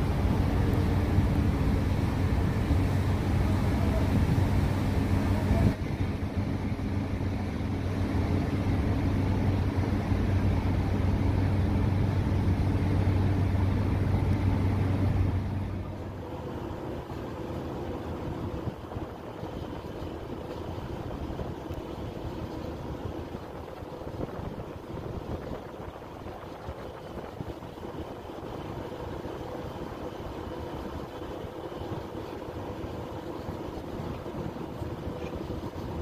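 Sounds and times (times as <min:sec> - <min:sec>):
ship engine machinery drone: 0:00.0 - 0:36.0.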